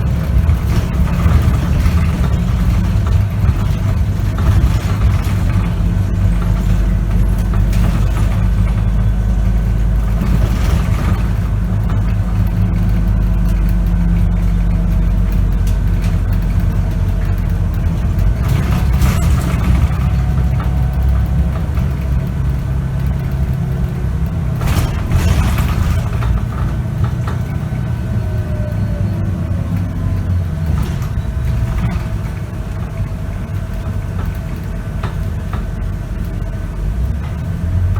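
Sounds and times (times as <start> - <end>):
bus diesel engine drone: 0.0 - 37.9.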